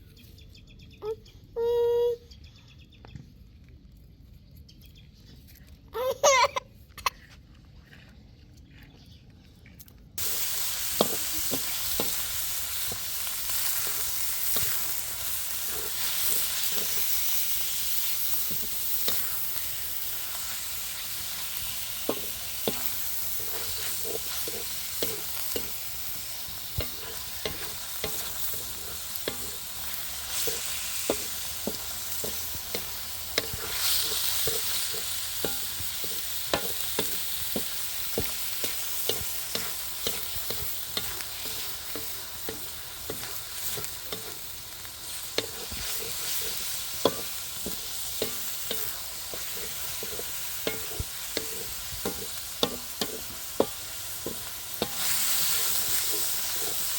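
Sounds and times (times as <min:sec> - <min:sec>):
food sizzling in hot oil: 0:10.2 - 0:56.9
spoon scraping and knocking pan: 0:10.2 - 0:56.9.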